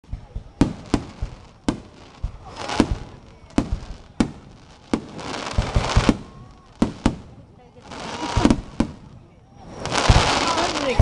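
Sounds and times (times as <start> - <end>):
deep fireworks thumps: 0.0 - 11.0
fireworks bangs: 0.0 - 11.0
fireworks crackling: 0.0 - 11.0.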